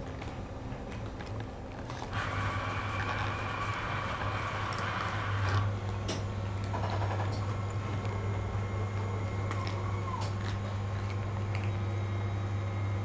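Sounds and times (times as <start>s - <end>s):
cat licking and chewing food: 0.0s - 12.6s
steady low hum: 0.0s - 13.0s.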